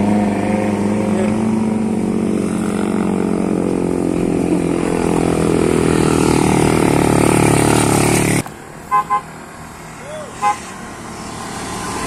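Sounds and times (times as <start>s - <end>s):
motorcycle engine passing: 0.0s - 8.4s, 10.4s - 12.0s.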